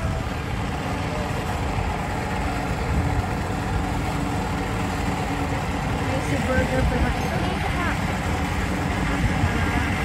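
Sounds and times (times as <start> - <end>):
vehicle engine idling: 0.0 - 10.0
wind buffeting microphone: 0.0 - 10.0.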